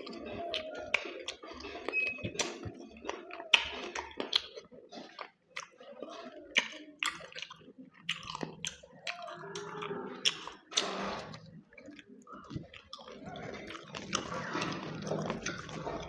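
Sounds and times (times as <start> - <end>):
wet chewing and lip smacks: 0.0 - 16.0.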